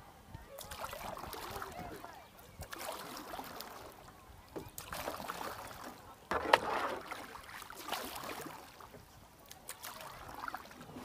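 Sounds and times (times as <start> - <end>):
paddle strokes splashing water: 0.5 - 11.0.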